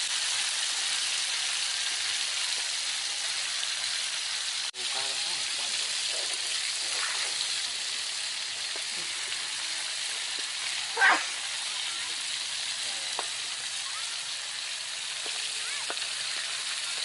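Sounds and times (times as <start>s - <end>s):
food frying in hot oil: 0.0s - 17.0s.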